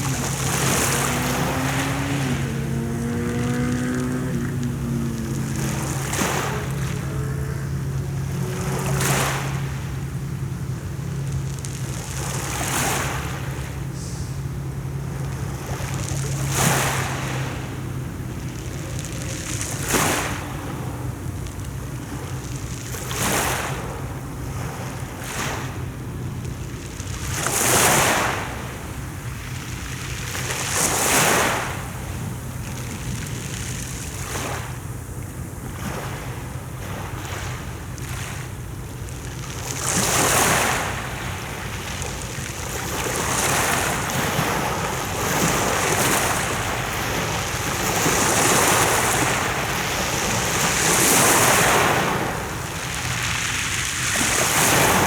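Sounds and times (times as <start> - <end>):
sea waves breaking on shore: 0.0 - 55.0
wind rumble on microphone: 0.0 - 55.0.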